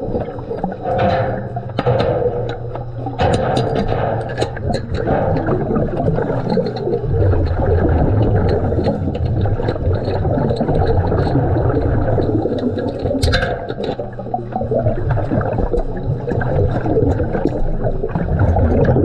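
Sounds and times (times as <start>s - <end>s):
underwater air bubbles gurgling: 0.0s - 19.0s.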